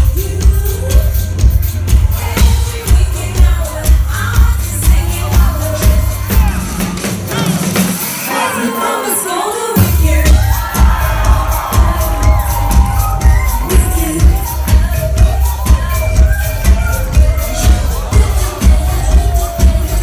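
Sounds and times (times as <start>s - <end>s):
person singing: 0.0s - 7.6s, 8.2s - 20.0s
heavy bass beat: 0.0s - 8.1s, 9.8s - 20.0s
live dance-pop music: 0.0s - 20.0s.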